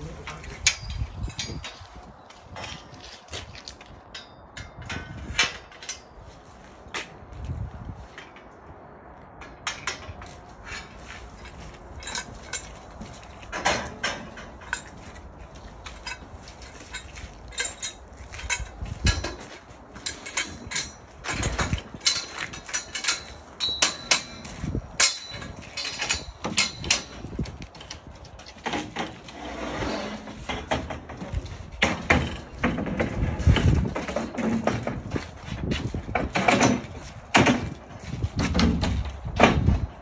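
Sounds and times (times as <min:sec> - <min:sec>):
metal scaffold tubes clanking: 0:00.0 - 0:06.5, 0:09.4 - 0:40.0.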